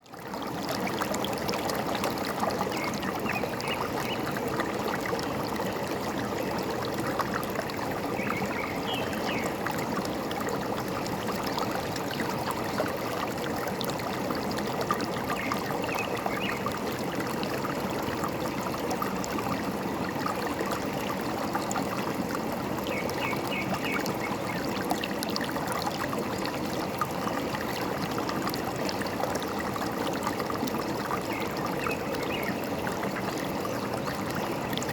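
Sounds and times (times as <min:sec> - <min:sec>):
stream running: 0:00.0 - 0:34.9.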